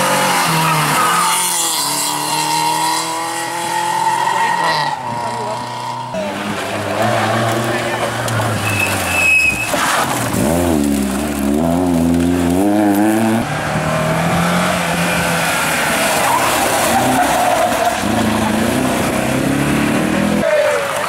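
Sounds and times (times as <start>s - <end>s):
rally car engine revving: 0.0s - 21.0s
tyres skidding on loose surface: 0.0s - 21.0s.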